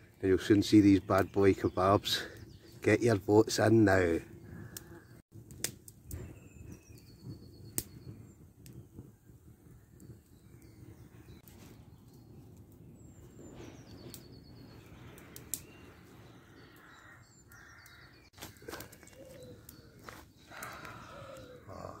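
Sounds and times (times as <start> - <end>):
campfire crackling and popping: 0.0 - 22.0
woodland birds singing: 0.1 - 5.2, 6.0 - 8.5, 9.6 - 22.0.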